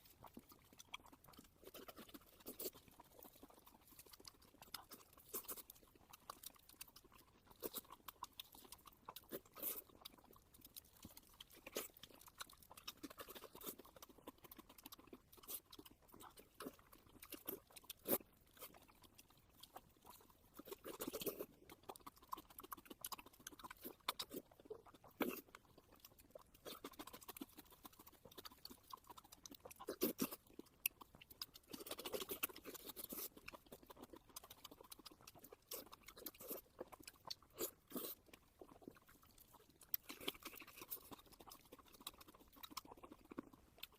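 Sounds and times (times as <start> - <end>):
person chewing and biting food: 0.0 - 43.9
wet mouth clicks: 0.0 - 43.9.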